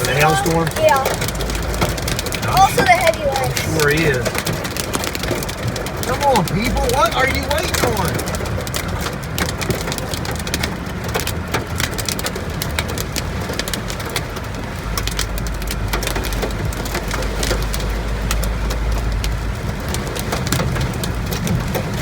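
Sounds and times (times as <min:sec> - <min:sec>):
hail pattering on car roof: 0:00.0 - 0:22.0.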